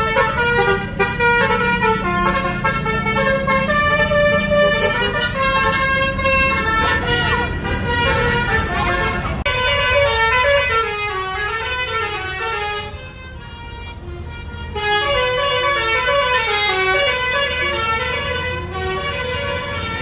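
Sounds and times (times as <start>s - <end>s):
musical air horn melody: 0.0s - 20.0s.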